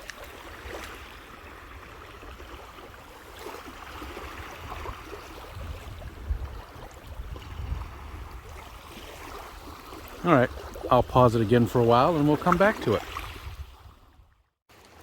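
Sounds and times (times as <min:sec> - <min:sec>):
lake waves washing against shore: 0:00.0 - 0:15.0.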